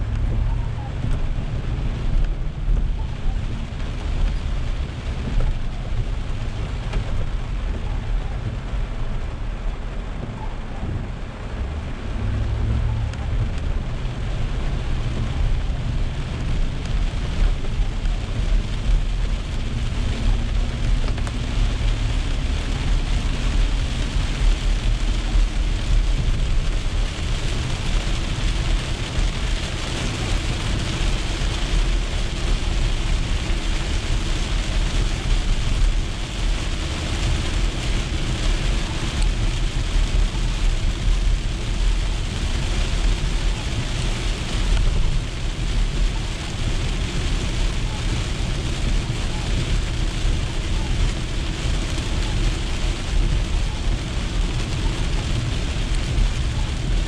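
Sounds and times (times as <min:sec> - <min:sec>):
heavy rain on car roof: 0:00.0 - 0:57.0
tyres rumbling on wet road: 0:00.0 - 0:57.0.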